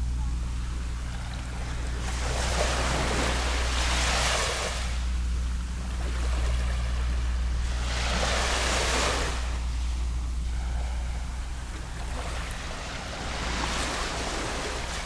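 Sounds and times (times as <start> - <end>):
steady low hum: 0.0 - 15.0
waves lapping on shore: 0.4 - 15.0.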